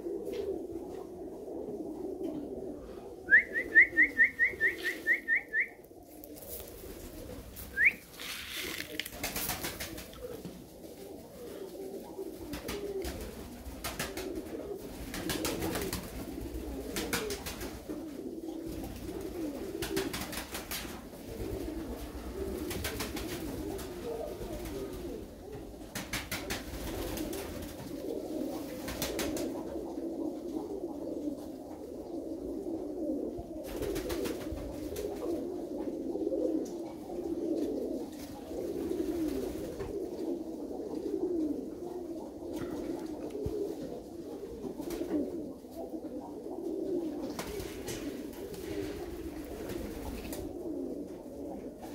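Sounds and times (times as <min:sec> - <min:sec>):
pigeons cooing: 0:00.0 - 0:51.9.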